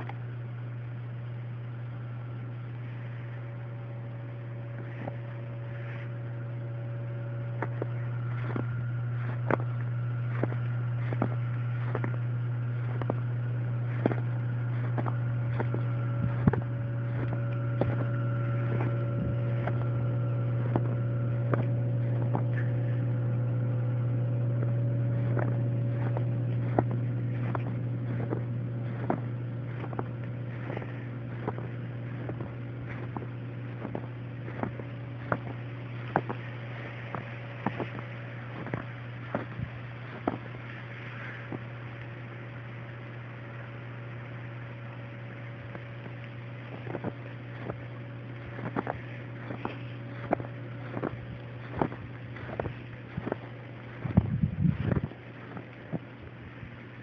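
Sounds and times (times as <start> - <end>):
low motor-like hum: 0.0 - 57.0.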